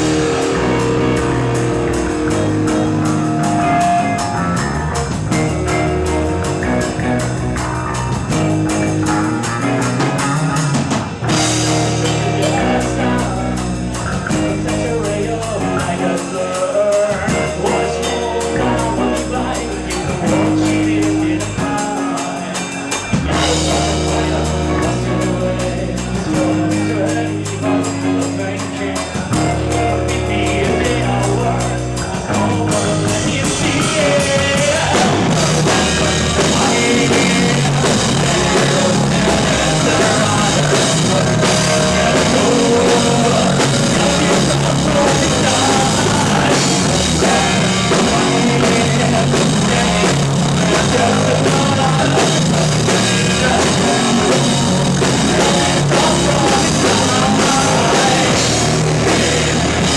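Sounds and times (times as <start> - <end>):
person singing: 0.0 - 59.9
rock band playing live: 0.0 - 59.9.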